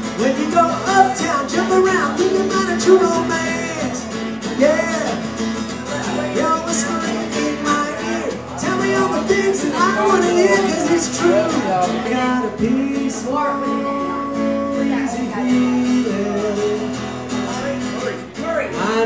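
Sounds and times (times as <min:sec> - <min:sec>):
acoustic guitar strumming: 0:00.0 - 0:19.0
man singing into a microphone: 0:00.0 - 0:19.0.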